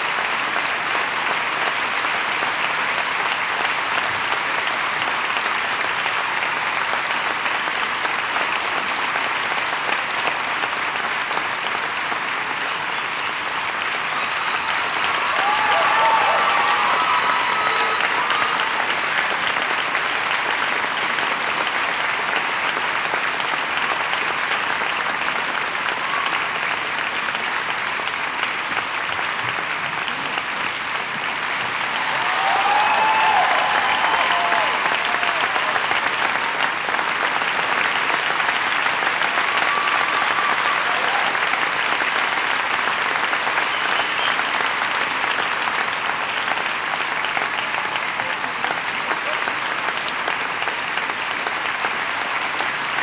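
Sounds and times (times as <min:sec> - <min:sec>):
audience applauding: 0:00.0 - 0:53.0.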